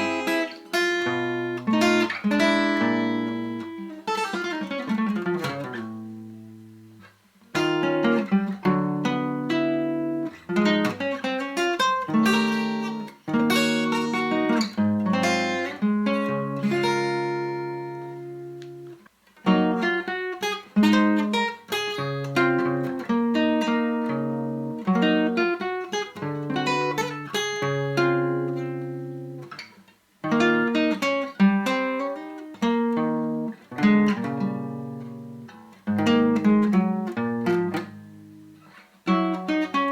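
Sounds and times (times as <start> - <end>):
solo acoustic guitar: 0.0 - 39.9.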